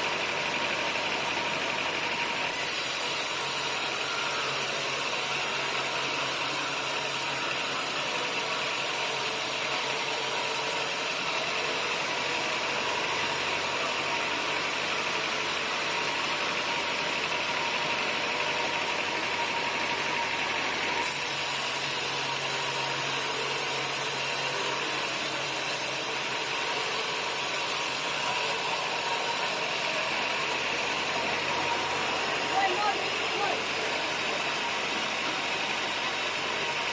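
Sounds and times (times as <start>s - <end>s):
engine running steadily: 0.0s - 36.9s.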